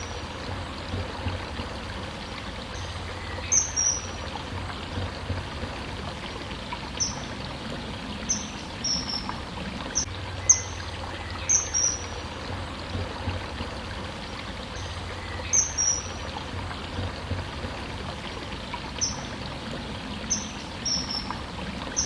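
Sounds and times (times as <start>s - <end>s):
flowing water: 0.0s - 22.0s.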